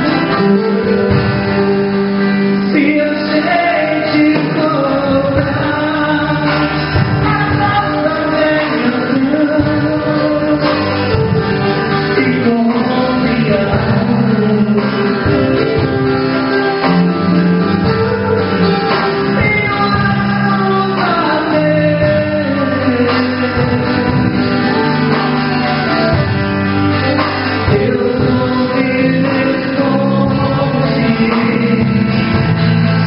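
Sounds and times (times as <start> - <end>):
person singing worship song: 0.0 - 16.2, 17.8 - 25.7, 27.6 - 33.0
band with guitar: 0.0 - 33.0.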